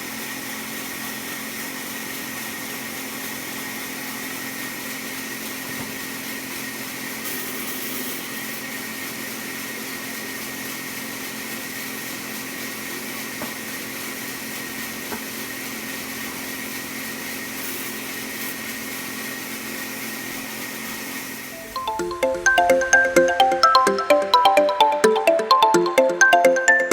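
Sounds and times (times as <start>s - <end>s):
power saw cutting wood: 0.0s - 21.6s.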